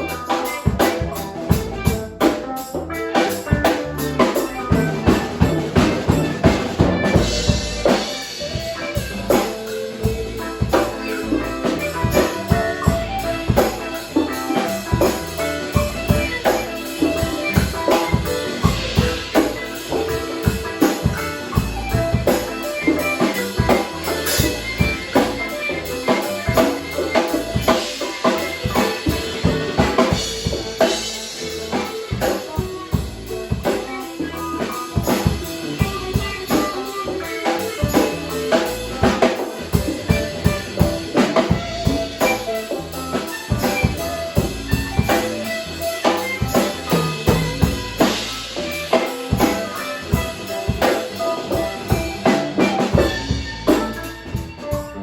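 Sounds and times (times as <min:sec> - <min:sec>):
music with drum beat: 0:00.0 - 0:55.0.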